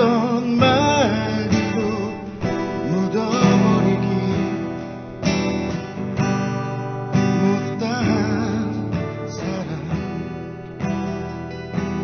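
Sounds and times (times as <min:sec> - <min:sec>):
man singing a slow ballad: 0:00.0 - 0:11.0
acoustic guitar strumming chords: 0:00.0 - 0:12.0.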